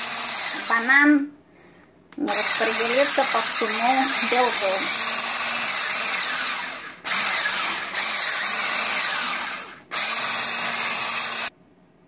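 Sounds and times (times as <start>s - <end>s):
electric hand whisk running: 0.0s - 1.0s, 2.3s - 11.5s.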